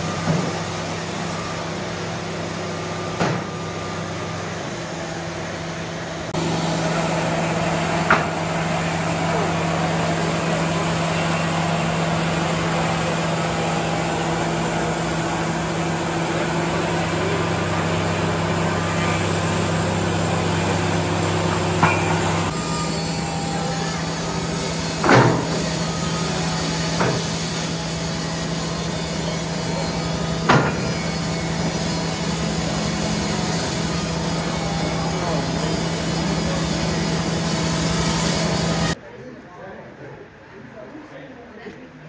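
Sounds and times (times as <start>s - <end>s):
machine humming: 0.0s - 39.0s.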